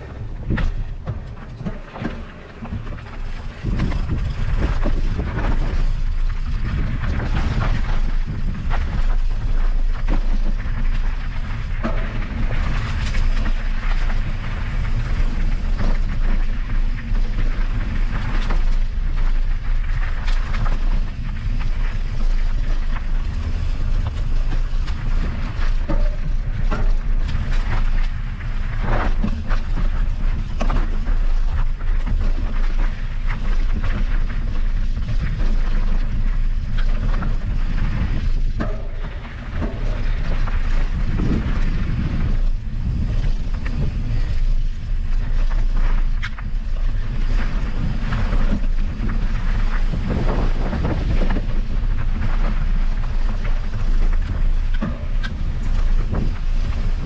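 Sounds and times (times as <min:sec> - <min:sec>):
mountain bike rattling over bumps: 0:00.0 - 0:57.0
steady low rumble: 0:00.0 - 0:57.0.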